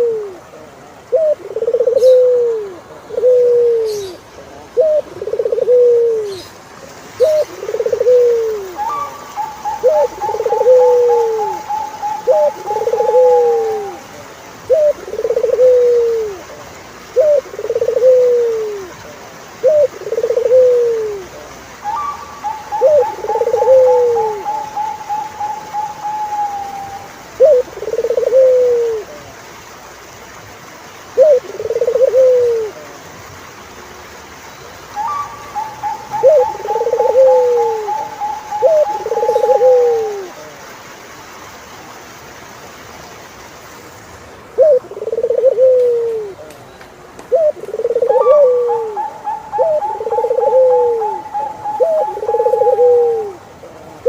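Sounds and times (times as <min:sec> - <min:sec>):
turtle doves cooing: 0:00.0 - 0:06.6, 0:07.2 - 0:29.3, 0:31.1 - 0:33.0, 0:34.9 - 0:40.6, 0:44.4 - 0:46.5, 0:47.2 - 0:54.0.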